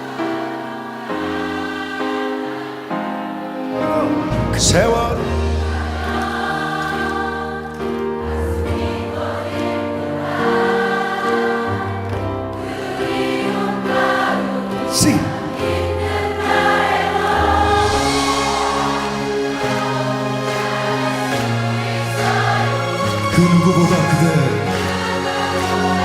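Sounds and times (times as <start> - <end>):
crowd singing: 0.0 - 26.0.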